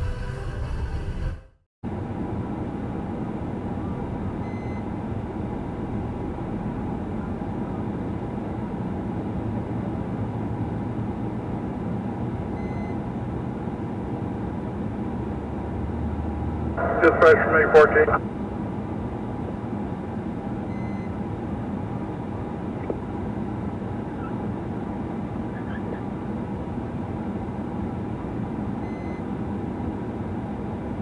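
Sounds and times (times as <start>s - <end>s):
road and engine noise inside car: 1.9s - 31.0s.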